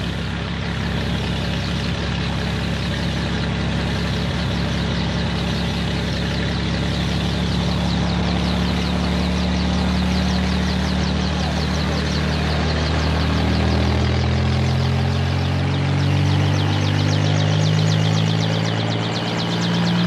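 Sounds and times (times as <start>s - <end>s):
helicopter engine drone: 0.0s - 20.0s
rotor beating: 0.0s - 20.0s.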